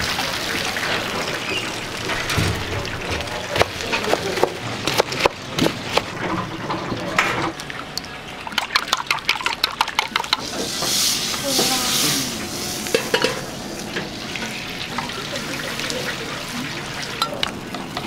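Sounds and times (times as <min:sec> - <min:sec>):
oil bubbling in deep fryer: 0:00.0 - 0:18.0.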